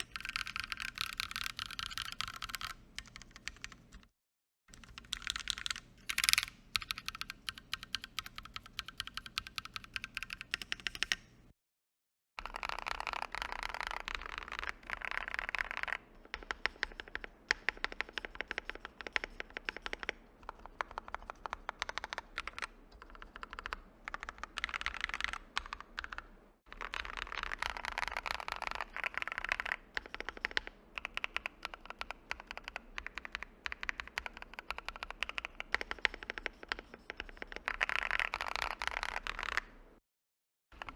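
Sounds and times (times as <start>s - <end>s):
clacky mechanical keyboard typing: 0.0s - 4.1s, 4.7s - 11.3s, 12.4s - 39.7s.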